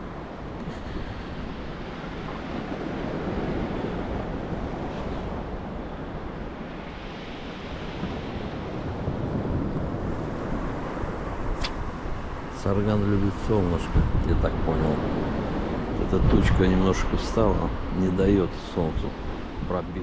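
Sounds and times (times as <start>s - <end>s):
waves washing against shore: 0.0s - 20.0s
wind rumbling on microphone: 0.0s - 20.0s.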